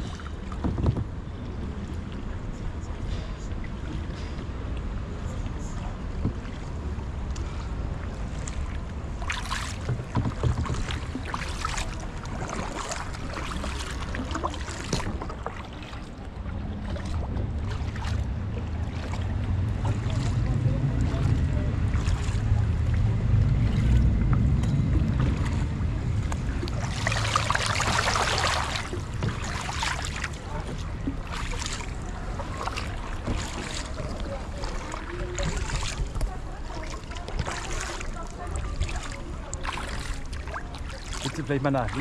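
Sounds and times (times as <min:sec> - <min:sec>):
wind rumble on microphone: 0:00.0 - 0:39.6
paddles splashing in water: 0:00.0 - 0:42.0.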